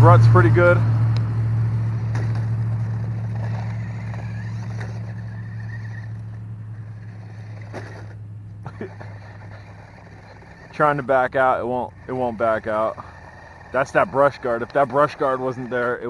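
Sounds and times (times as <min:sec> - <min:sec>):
toy truck motor humming: 0:01.8 - 0:16.0.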